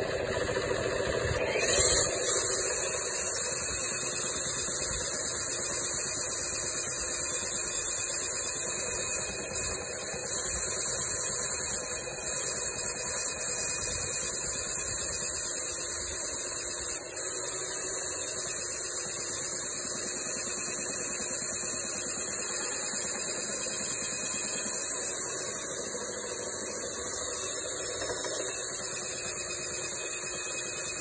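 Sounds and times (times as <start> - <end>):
belt sander whining: 0.0 - 31.0.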